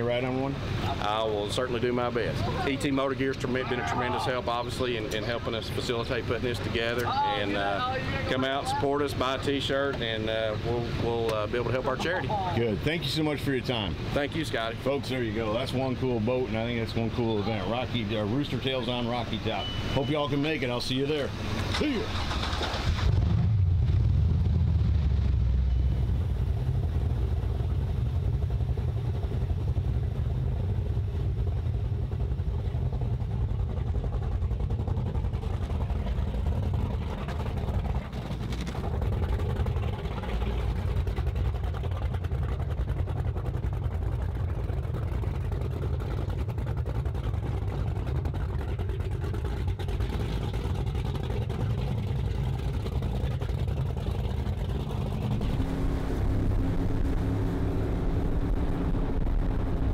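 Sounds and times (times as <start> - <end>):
boat engines idling: 0.0 - 59.9.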